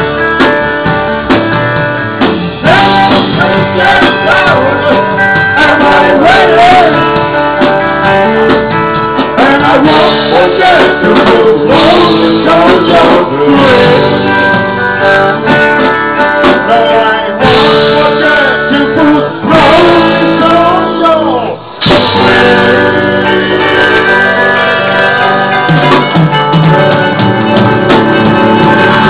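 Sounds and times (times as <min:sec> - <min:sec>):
electric guitar: 0:00.0 - 0:29.0
rock band playing: 0:00.0 - 0:29.0.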